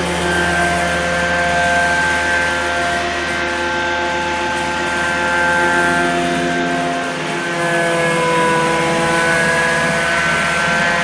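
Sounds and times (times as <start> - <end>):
carpet cleaning machine drone: 0.0 - 11.0
machine whining tones: 0.0 - 11.0.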